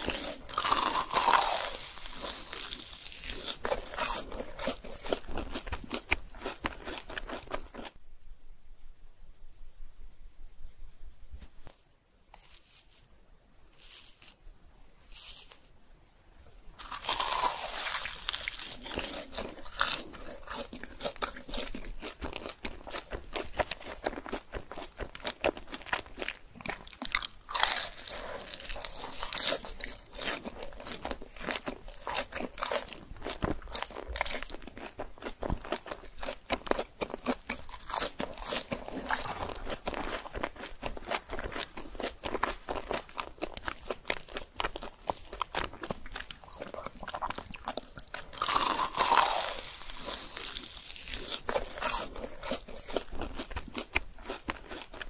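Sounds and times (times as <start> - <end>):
crunching and chewing food: 0.0 - 8.0, 11.6 - 15.8, 16.4 - 55.0.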